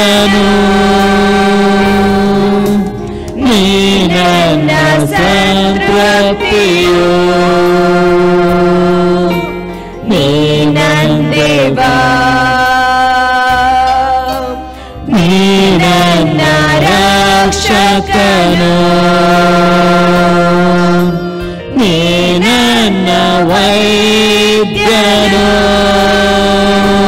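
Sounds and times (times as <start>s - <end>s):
person singing worship song: 0.0s - 27.0s
sustained background music: 0.0s - 27.0s.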